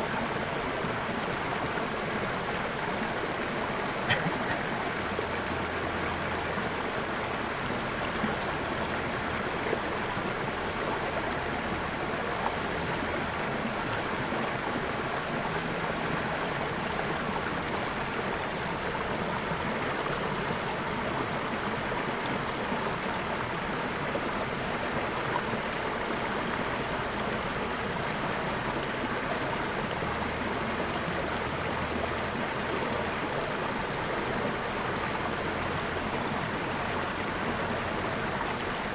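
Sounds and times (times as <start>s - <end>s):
water flowing steadily: 0.0s - 38.9s.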